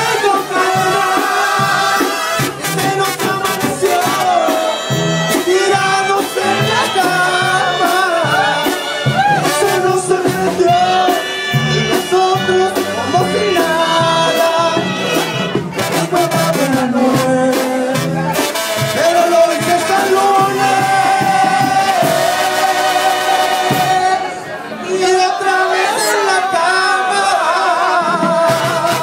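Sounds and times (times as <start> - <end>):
steady drum beat: 0.0 - 24.4, 27.7 - 29.0
trombones and tuba: 0.0 - 24.6, 25.2 - 29.0
accordion: 0.0 - 29.0
men singing: 0.0 - 29.0.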